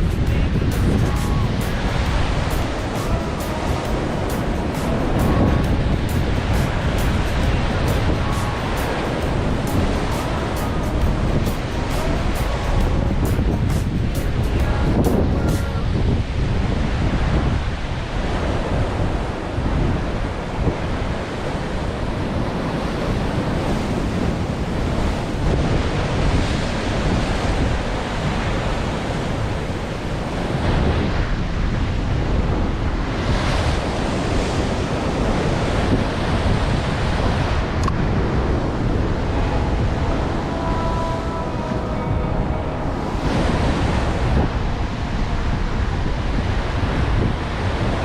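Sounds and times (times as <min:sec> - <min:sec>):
surf on rocky shore: 0:00.0 - 0:48.0
wind buffeting microphone: 0:00.0 - 0:48.0.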